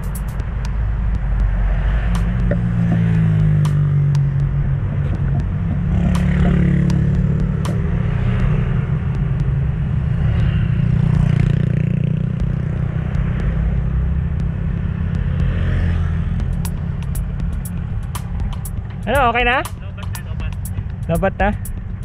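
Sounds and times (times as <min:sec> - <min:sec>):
passing traffic: 0:00.0 - 0:22.0.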